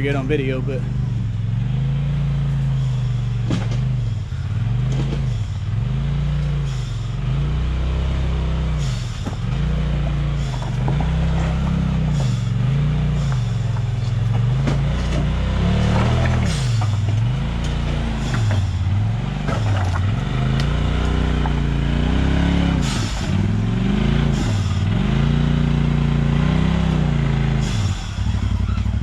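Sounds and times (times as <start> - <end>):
off-road engine revving: 0.0 - 29.0.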